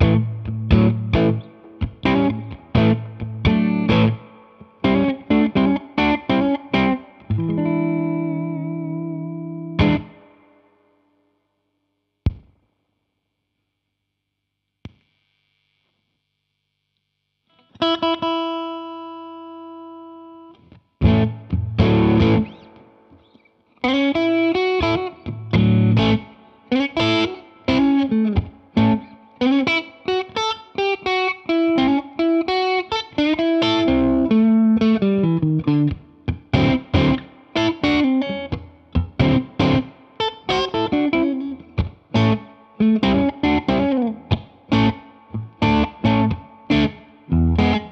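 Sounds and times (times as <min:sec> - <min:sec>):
electric guitar chords and notes: 0:00.0 - 0:11.0, 0:17.5 - 0:47.9.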